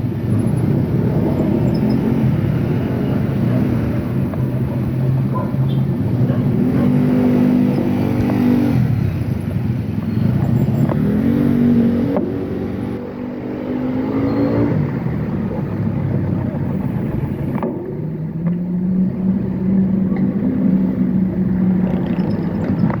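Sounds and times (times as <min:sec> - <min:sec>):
low rumble of road noise: 0:00.0 - 0:23.0
vehicle engine accelerating: 0:00.0 - 0:23.0.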